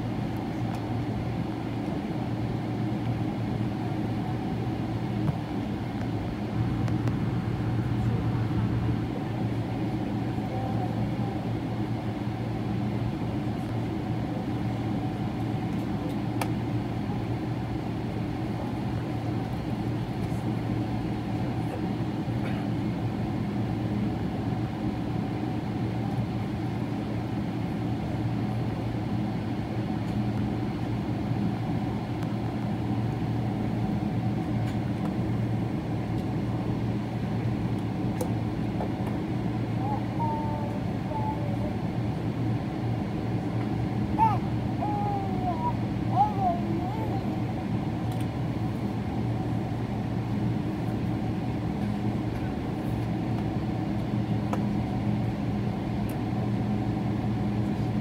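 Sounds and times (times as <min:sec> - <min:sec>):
aircraft cabin drone: 0:00.0 - 0:58.0.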